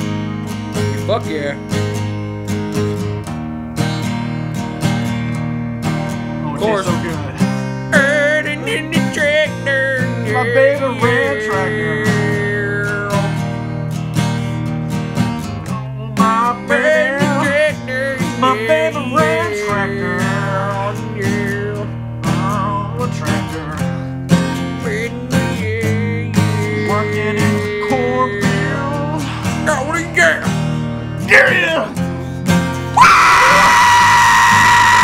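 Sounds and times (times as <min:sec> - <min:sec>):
strummed acoustic guitar: 0:00.0 - 0:33.0.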